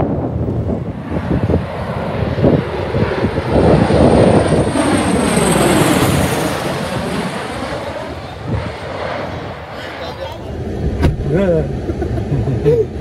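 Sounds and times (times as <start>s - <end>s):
tiltrotor aircraft flying overhead: 0.0s - 13.0s.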